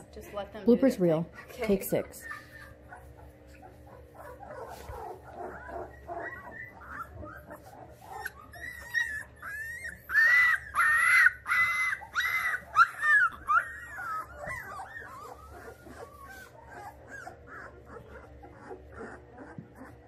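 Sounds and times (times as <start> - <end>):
puppies whining and squealing: 1.5 - 20.0.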